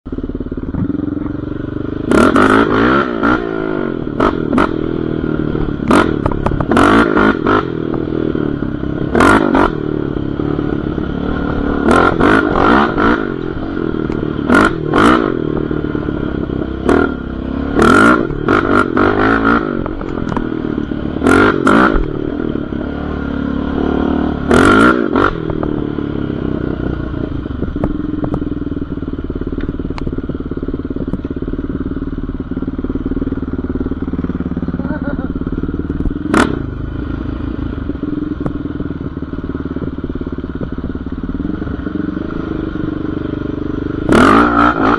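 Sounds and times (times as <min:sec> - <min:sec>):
quad bike engine revving: 0:00.1 - 0:44.9.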